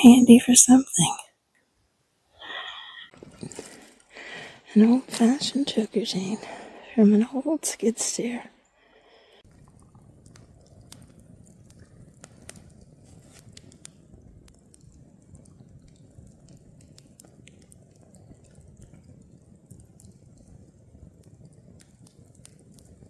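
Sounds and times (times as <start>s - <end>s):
campfire crackling: 1.6s - 23.0s.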